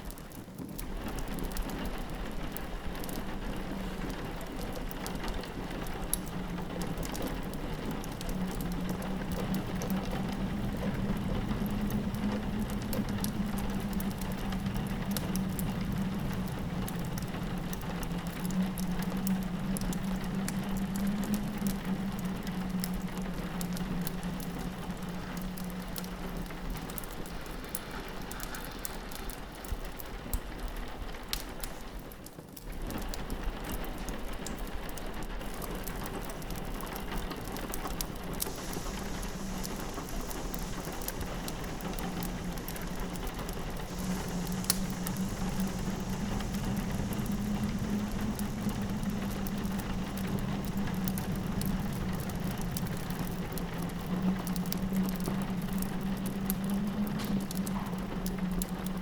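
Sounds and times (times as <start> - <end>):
log fire crackling: 0.0 - 59.0
rain pattering on window: 0.0 - 59.0
low steady drone: 1.6 - 29.7, 35.4 - 59.0.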